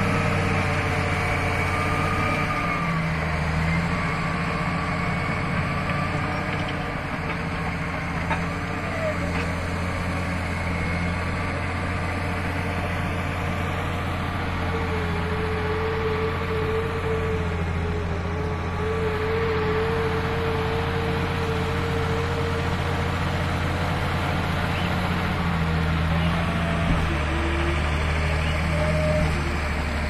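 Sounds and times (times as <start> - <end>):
bulldozer diesel engine running: 0.0 - 30.0
high engine whine: 0.0 - 30.0.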